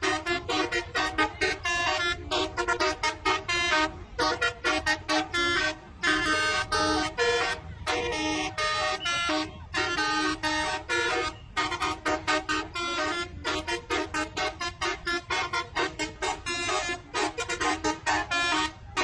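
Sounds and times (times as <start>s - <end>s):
air horns tooting a tune: 0.0s - 19.0s.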